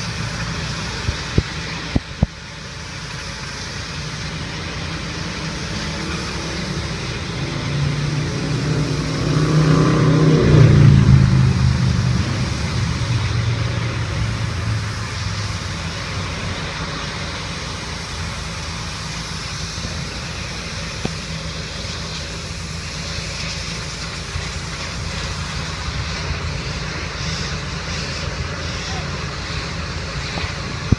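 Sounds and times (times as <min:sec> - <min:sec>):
steady hum and hiss: 0:00.0 - 0:30.9
vehicle engine passing: 0:04.4 - 0:30.6.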